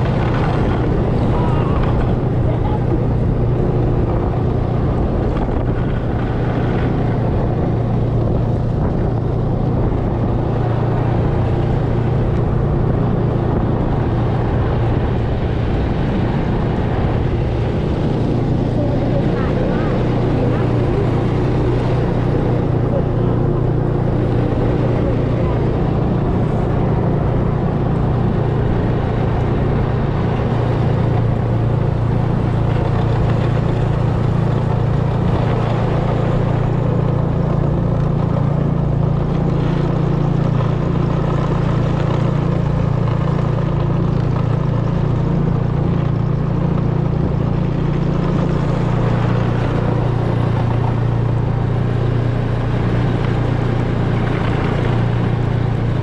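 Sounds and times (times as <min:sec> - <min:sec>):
snowmobile engine droning: 0:00.0 - 0:56.0.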